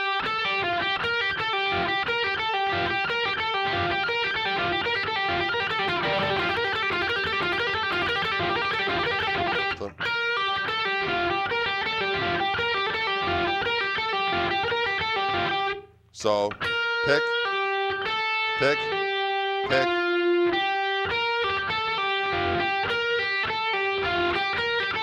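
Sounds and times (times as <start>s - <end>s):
electric guitar lead lick: 0.0s - 15.8s, 16.4s - 25.0s.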